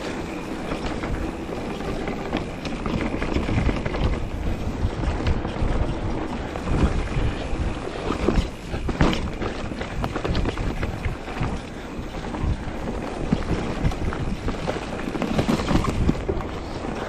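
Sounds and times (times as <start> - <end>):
bike rattling over bumps: 0.0 - 17.0
tyres rolling on dirt: 0.0 - 17.0
wind rushing over microphone: 0.0 - 17.0.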